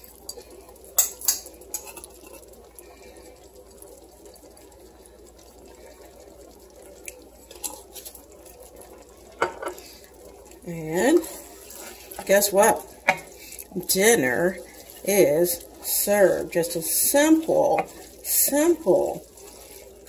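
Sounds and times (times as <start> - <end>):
pasta and shrimp sizzling: 0.0 - 20.0.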